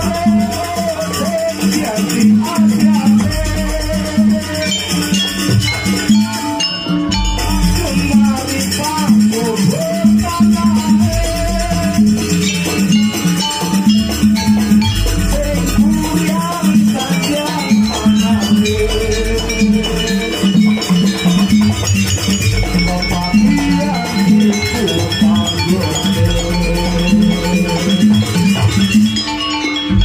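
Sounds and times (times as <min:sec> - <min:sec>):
percussion ensemble beat: 0:00.0 - 0:30.0
wavering melody line: 0:00.0 - 0:30.0.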